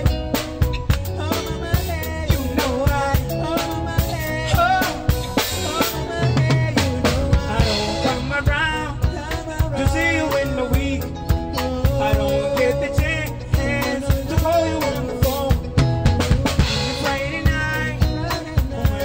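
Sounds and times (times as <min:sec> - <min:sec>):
drum kit beat: 0:00.0 - 0:19.0
live band playing: 0:00.0 - 0:19.0
man singing: 0:00.0 - 0:19.0.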